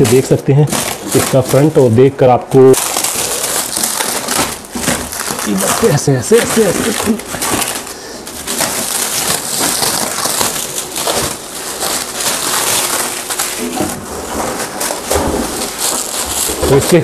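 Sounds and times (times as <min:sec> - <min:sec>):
packing wrap crinkling: 0:00.0 - 0:17.0.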